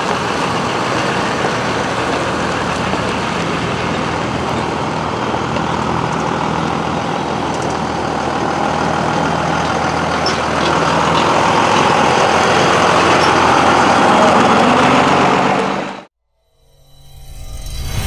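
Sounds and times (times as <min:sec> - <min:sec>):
diesel truck rolling past: 0:00.0 - 0:16.1.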